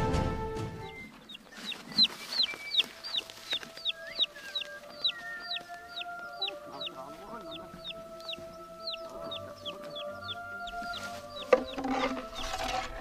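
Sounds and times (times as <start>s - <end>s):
bird chirping high: 0.8s - 13.0s.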